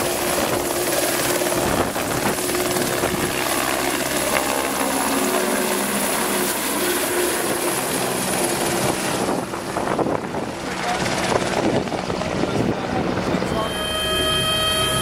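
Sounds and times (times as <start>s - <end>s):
helicopter flying past: 0.0s - 15.0s.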